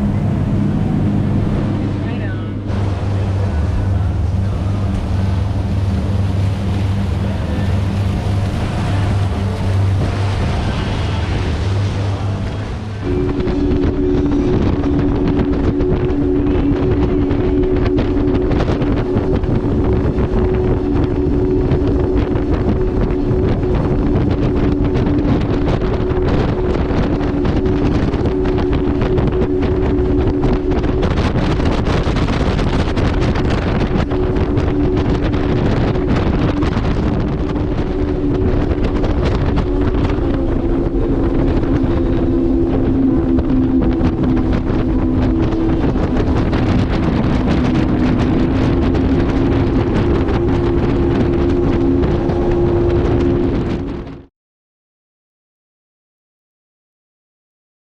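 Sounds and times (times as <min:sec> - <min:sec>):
boat engine droning: 0:00.0 - 0:54.3
wind buffeting microphone: 0:00.0 - 0:54.3.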